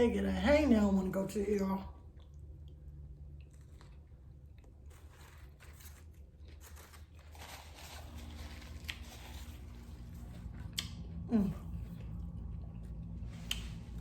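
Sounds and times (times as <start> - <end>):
low steady hum: 0.0 - 14.0
soft crunching eating sounds: 1.9 - 14.0.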